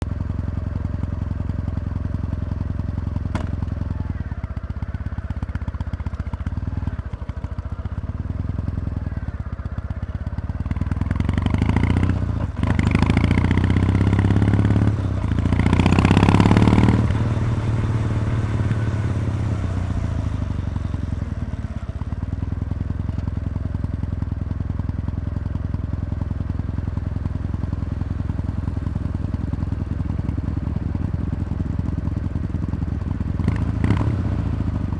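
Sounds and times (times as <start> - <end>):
motorcycle exhaust rumble revving: 0.1 - 34.9.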